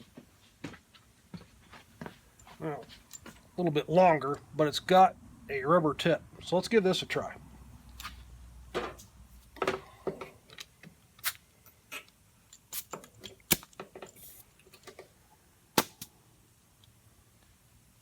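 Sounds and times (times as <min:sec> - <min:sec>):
faint air hiss: 0:00.0 - 0:18.0.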